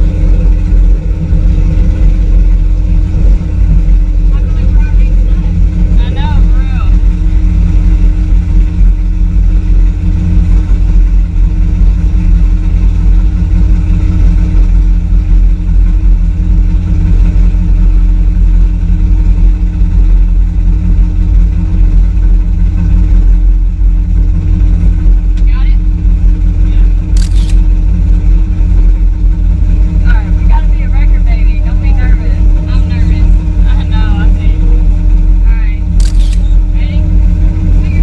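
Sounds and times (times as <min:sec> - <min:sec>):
truck engine idling loudly: 0:00.0 - 0:38.0.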